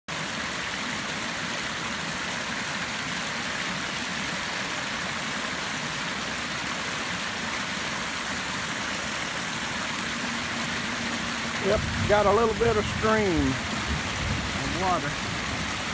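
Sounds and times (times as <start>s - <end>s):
water rushing through culvert: 0.1s - 15.9s.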